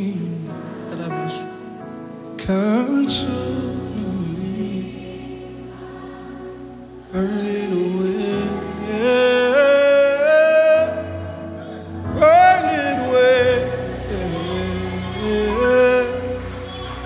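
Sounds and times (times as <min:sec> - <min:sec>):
person singing gospel: 0:00.0 - 0:17.0.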